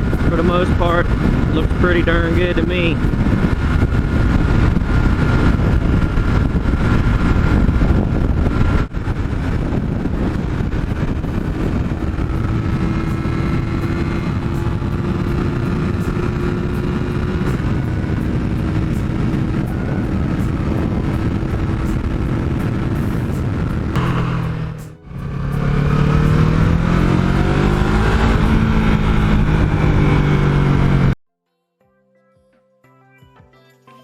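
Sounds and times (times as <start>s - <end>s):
motorcycle engine at speed: 0.0s - 31.2s
wind rush: 0.0s - 31.2s.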